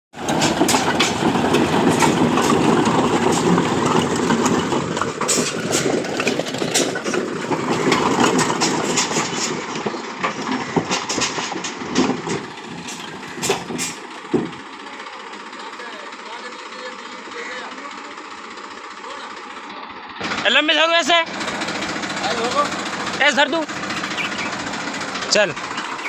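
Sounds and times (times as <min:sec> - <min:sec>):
diesel tractor engine running: 0:00.1 - 0:26.0.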